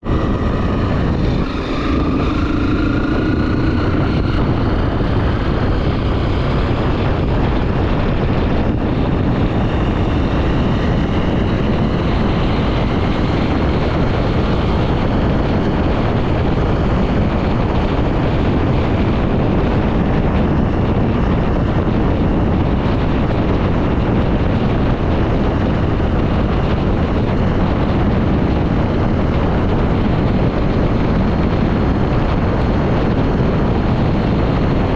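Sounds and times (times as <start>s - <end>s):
motorcycle engine accelerating: 0.0s - 34.9s
wind on microphone: 0.0s - 34.9s.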